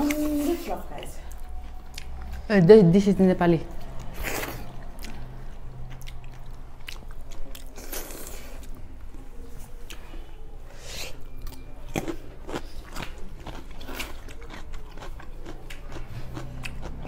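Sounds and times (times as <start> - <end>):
people chewing and crunching food: 0.0 - 3.1, 3.7 - 17.0.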